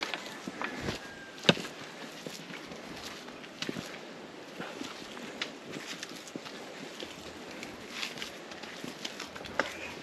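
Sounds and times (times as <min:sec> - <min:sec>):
footsteps on trail: 0:00.0 - 0:10.0.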